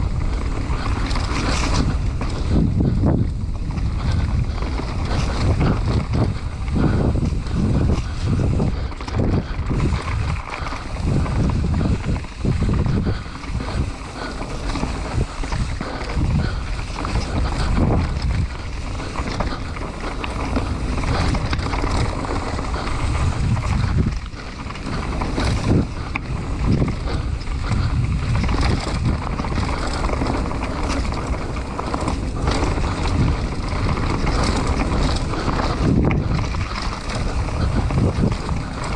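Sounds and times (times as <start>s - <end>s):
bike rattling on dirt trail: 0.0s - 38.9s
wind rushing over microphone: 0.0s - 38.9s.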